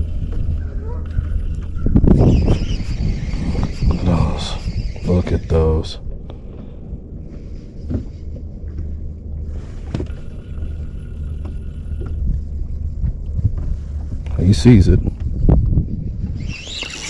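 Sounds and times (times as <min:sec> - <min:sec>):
boat motor rumbling: 0:00.0 - 0:17.0.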